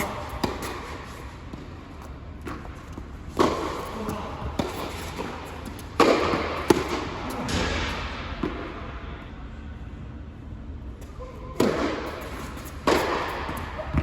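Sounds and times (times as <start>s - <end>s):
tennis ball bouncing on court: 0.0s - 8.7s, 11.0s - 14.0s
tennis ball struck by racquets: 0.0s - 8.8s, 11.0s - 14.0s.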